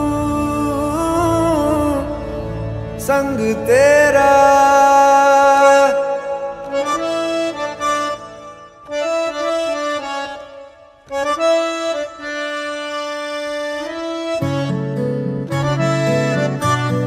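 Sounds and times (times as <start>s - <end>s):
free-reed instrument melody: 0.0s - 17.0s.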